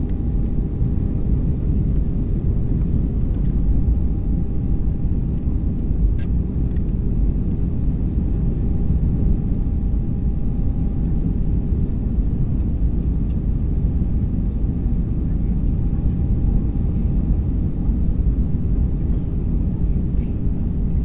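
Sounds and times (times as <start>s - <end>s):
aircraft cabin rumble: 0.0s - 21.0s.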